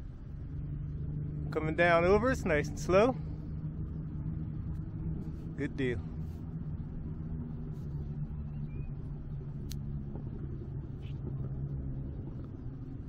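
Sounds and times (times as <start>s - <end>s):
motor rumble and hum: 0.0s - 13.0s.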